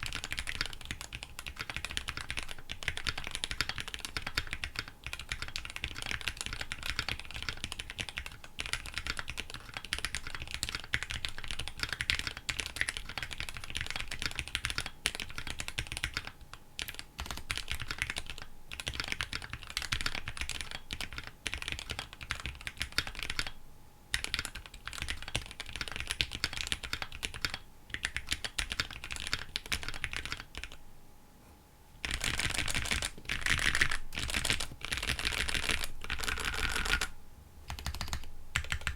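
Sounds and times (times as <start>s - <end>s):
mechanical keyboard typing: 0.0s - 23.5s, 24.1s - 30.8s, 32.0s - 37.1s, 37.7s - 38.9s.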